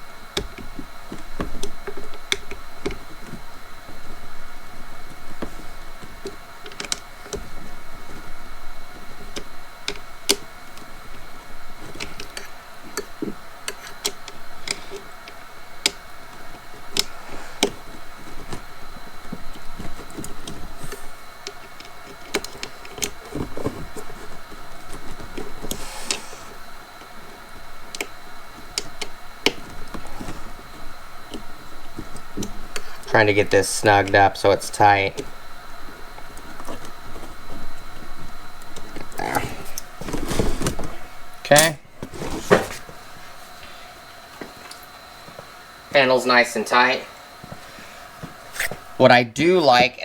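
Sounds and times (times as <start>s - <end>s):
plastic parts clicking and knocking: 0.0s - 42.8s
faint high hum: 0.0s - 50.0s.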